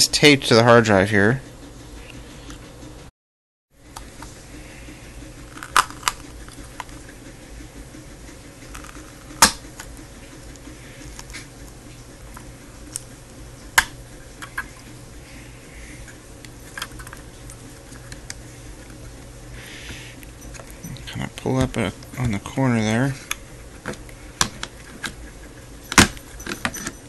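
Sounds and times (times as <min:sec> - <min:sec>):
steady low hum: 0:00.0 - 0:03.1, 0:03.8 - 0:27.0.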